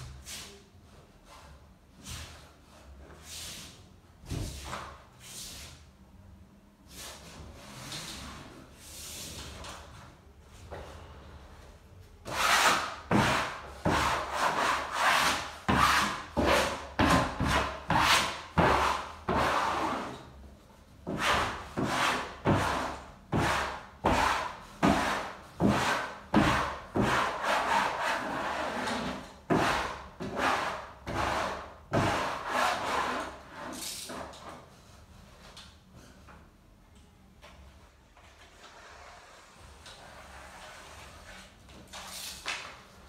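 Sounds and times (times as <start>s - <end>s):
wallpaper smoother scraping: 0.0s - 5.9s, 6.8s - 9.7s, 12.2s - 20.4s, 21.0s - 35.5s, 38.1s - 43.0s.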